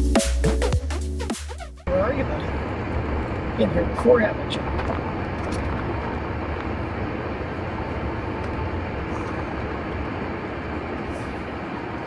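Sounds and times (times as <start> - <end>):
car engine and tyre rumble: 1.8 - 12.0
road noise: 1.8 - 12.0.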